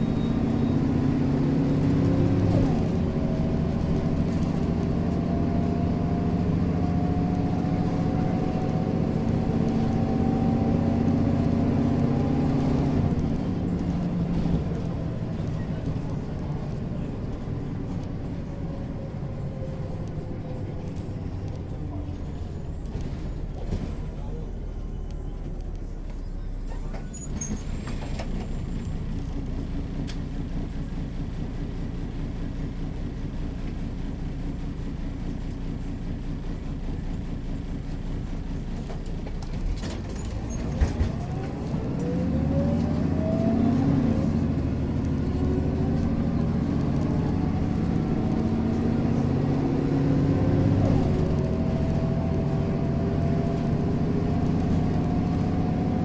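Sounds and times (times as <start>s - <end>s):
bus diesel engine running: 0.0s - 56.0s
bus engine accelerating with whines: 0.0s - 56.0s.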